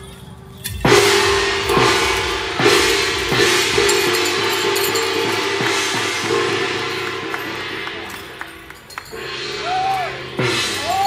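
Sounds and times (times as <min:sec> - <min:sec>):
cymbals crashing: 0:00.6 - 0:11.0
gong struck: 0:00.8 - 0:11.0.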